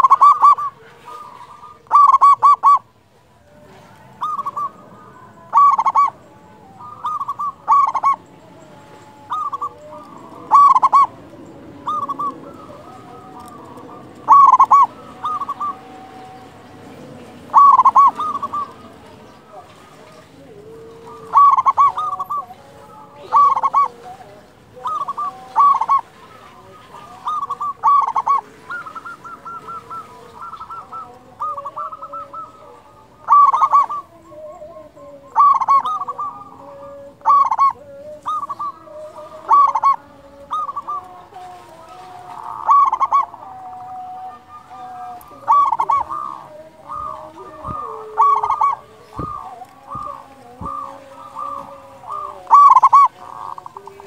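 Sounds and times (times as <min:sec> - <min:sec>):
dove cooing: 0:00.0 - 0:54.0
fainter lower bird calls: 0:00.0 - 0:54.0.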